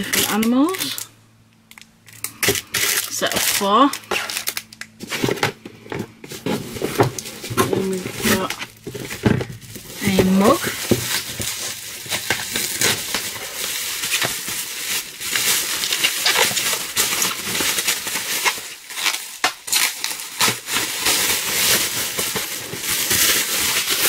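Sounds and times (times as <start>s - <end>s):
packaging crinkling: 0.0s - 1.1s, 1.7s - 24.0s.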